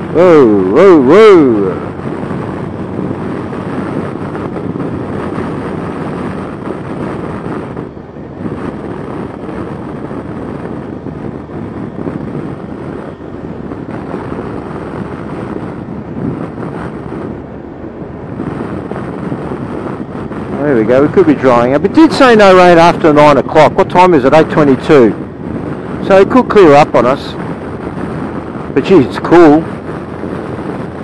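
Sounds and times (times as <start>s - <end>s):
motorcycle engine and tyre noise: 0.0s - 31.0s
wind rush on microphone: 0.0s - 31.0s.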